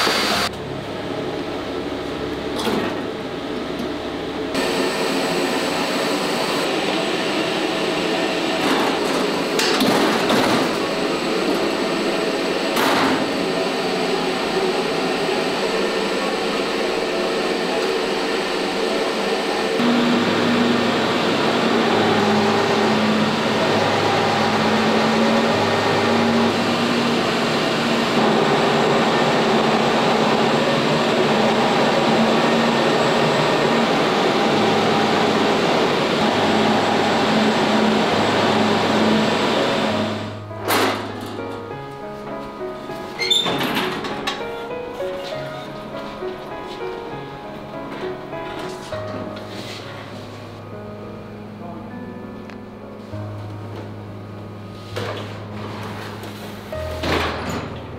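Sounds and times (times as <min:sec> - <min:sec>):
printer and fans hissing and humming: 0:00.0 - 0:52.3.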